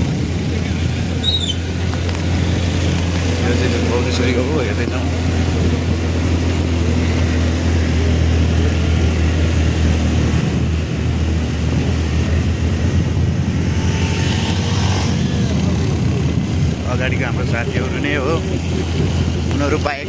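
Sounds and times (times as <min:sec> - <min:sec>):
motor scooter running: 0:00.0 - 0:20.0
wind rushing over microphone: 0:00.0 - 0:20.0.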